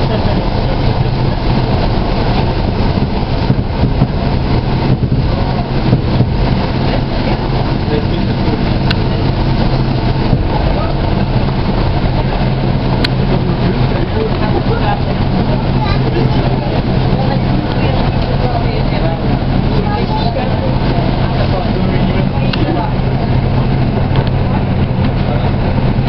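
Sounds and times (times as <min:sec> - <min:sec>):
train engine drone: 0:00.0 - 0:26.0
wheel and rail noise: 0:00.0 - 0:26.0.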